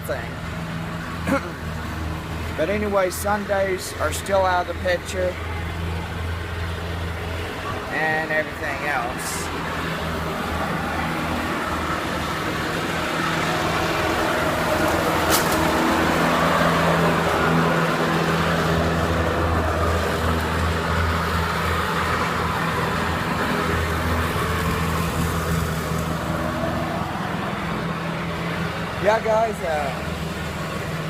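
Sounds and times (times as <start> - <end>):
riding lawnmower engine running: 0.0 - 31.0.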